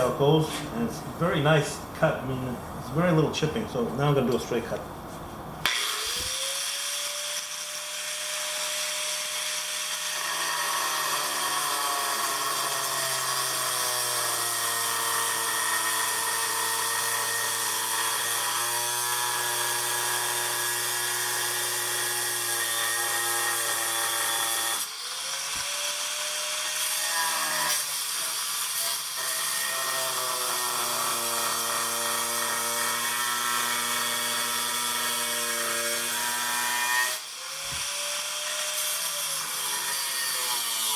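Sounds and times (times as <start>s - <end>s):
angle grinder cutting tile: 5.6s - 40.9s.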